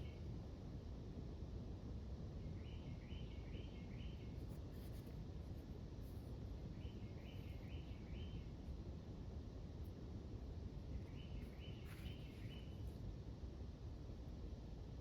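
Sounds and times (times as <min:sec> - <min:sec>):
low rumble background noise: 0:00.0 - 0:15.0.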